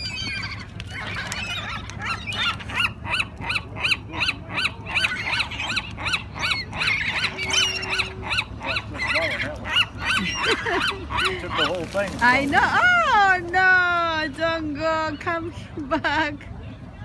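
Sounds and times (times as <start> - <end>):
flock of birds calling: 0.0 - 14.2.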